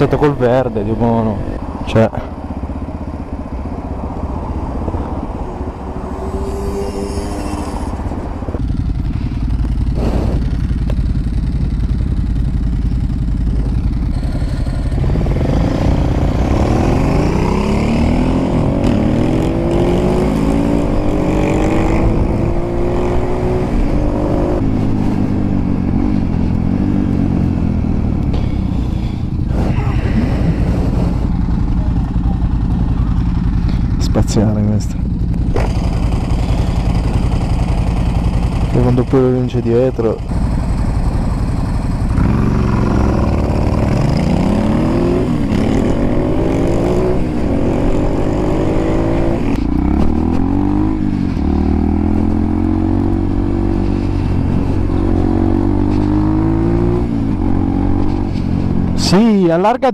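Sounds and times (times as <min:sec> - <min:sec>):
motorcycle engine revving: 0:00.0 - 0:59.7.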